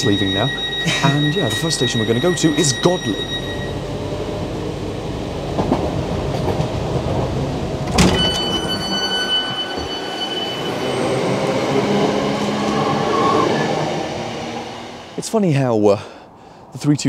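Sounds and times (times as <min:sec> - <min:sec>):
train rumble inside carriage: 0:00.0 - 0:15.4
train high whine: 0:00.0 - 0:15.6.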